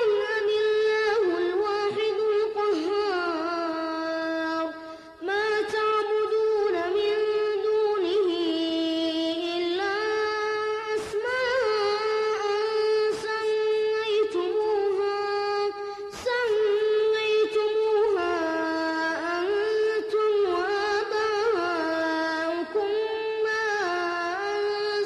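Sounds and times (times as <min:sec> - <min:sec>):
boy reciting melodically: 0:00.0 - 0:25.0.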